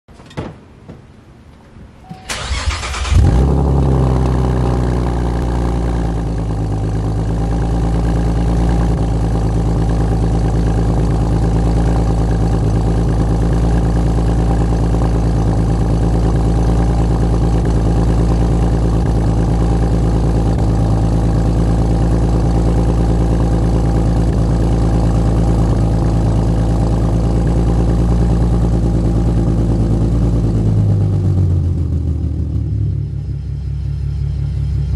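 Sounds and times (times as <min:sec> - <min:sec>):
car engine cranking and idling: 0:00.2 - 0:34.9.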